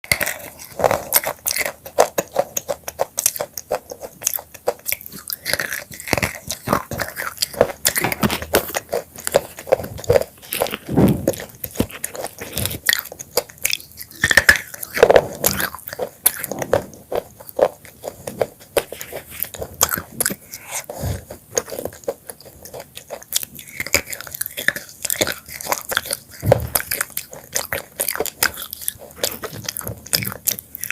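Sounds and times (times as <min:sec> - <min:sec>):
chips being crunched and chewed: 0:00.0 - 0:30.9.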